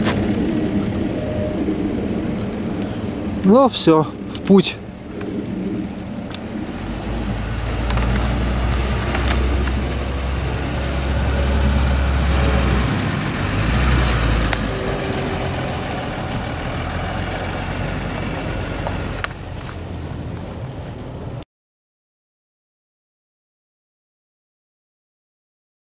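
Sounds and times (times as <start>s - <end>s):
truck engine driving past: 0.0s - 21.4s.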